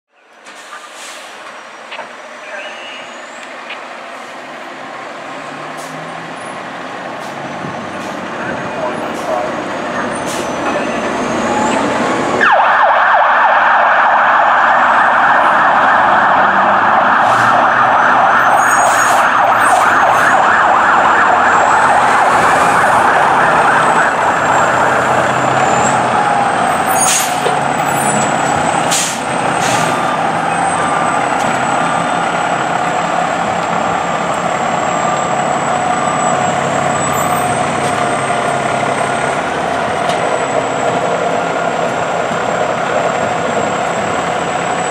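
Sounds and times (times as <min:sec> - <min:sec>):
fire truck siren: 0:00.7 - 0:44.9.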